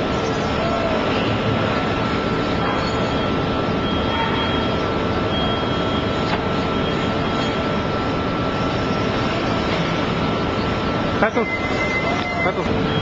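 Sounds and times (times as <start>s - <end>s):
forklift machine noise: 0.0s - 13.0s
forklift hydraulic whine: 0.1s - 13.0s.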